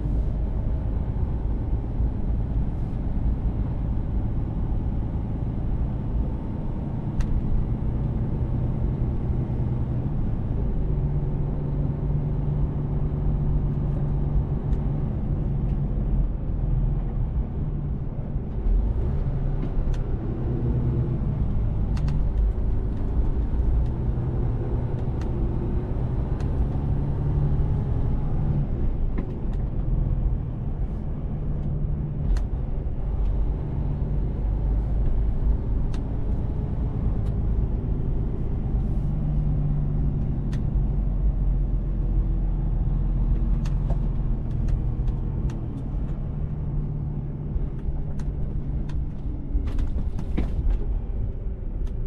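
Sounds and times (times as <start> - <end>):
truck engine and road drone: 0.0 - 52.0.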